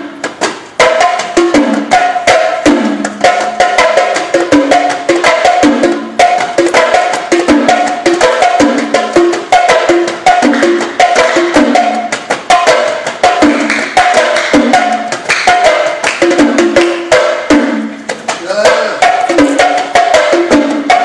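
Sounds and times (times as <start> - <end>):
percussion-driven music: 0.0 - 21.0.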